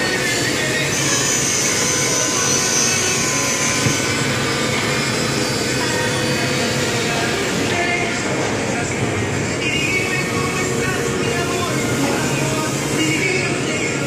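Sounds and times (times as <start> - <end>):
thin high whine: 0.0 - 14.0
workshop machinery drone: 0.0 - 14.0.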